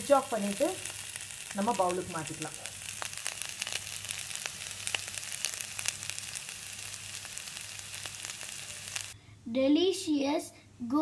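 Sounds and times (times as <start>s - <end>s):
frying in hot oil sizzling: 0.0s - 9.2s.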